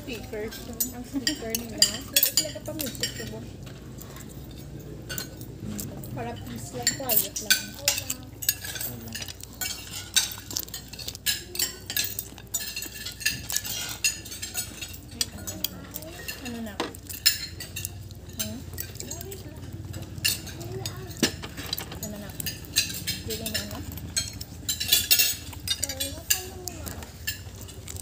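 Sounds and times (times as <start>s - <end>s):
cutlery clinking on plates: 0.1s - 28.0s.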